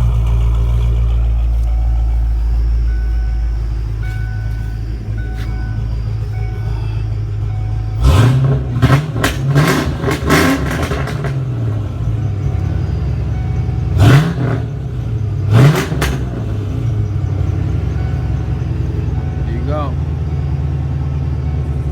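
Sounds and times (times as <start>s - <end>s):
car engine idling and revving: 0.0s - 21.9s.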